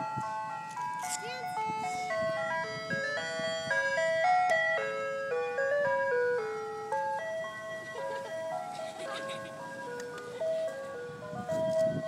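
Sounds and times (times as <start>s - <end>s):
ice cream truck chime melody: 0.0s - 12.0s.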